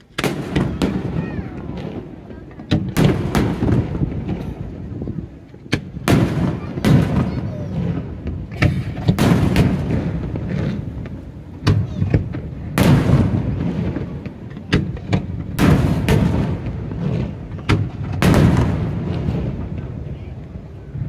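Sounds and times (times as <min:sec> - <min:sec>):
fireworks booming: 0:00.0 - 0:21.0.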